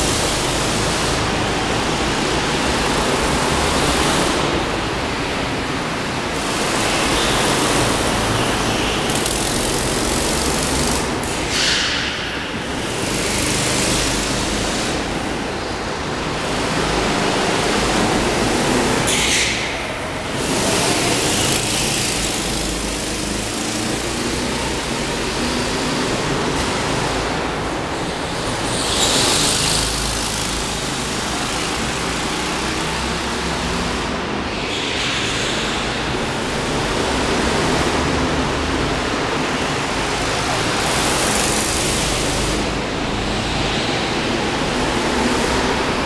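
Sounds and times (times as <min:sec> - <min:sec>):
go-kart engines droning: 0:00.0 - 0:46.0.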